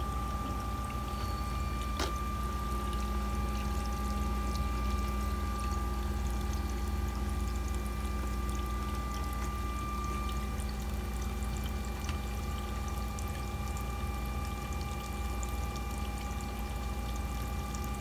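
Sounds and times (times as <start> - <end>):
low motor hum with whine: 0.0 - 18.0.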